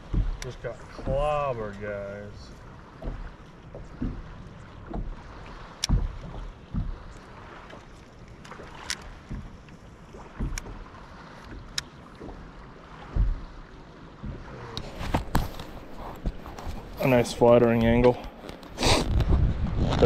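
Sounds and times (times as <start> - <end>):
low thumps: 0.0 - 1.8, 2.9 - 18.4
choppy water against boat: 0.0 - 20.0
wind: 0.0 - 20.0.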